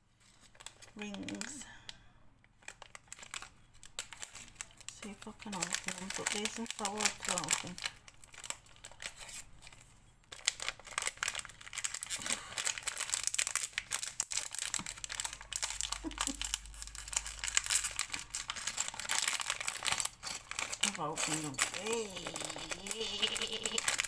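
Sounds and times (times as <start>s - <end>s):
plastic packets crinkling and tearing: 0.2s - 1.6s, 2.5s - 24.0s.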